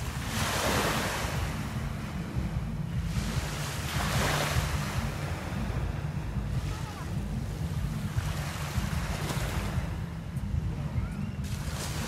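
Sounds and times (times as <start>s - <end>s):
small waves breaking on beach: 0.0s - 12.0s
wind rumble on microphone: 0.0s - 12.0s.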